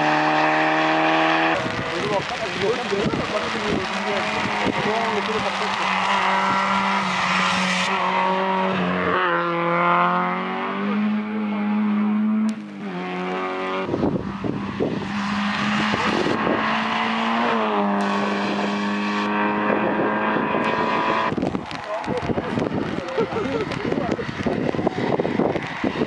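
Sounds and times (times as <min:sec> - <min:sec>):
rally car engine at full throttle: 0:00.0 - 0:26.0
rough low rumbling: 0:01.4 - 0:07.4, 0:11.0 - 0:26.0.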